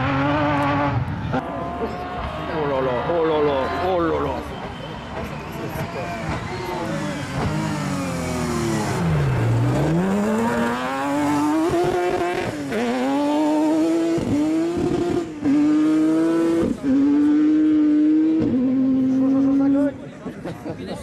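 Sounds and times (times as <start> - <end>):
buggy engine accelerating hard: 0.0 - 2.3, 4.6 - 20.0.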